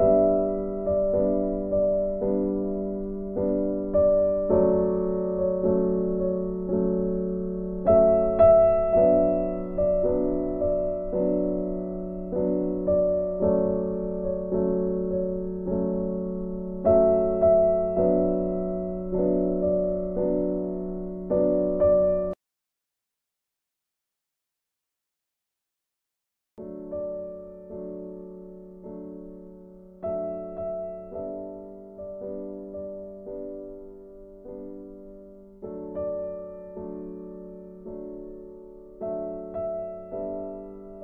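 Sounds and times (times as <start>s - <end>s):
gentle piano music: 0.0s - 22.4s, 26.6s - 41.0s.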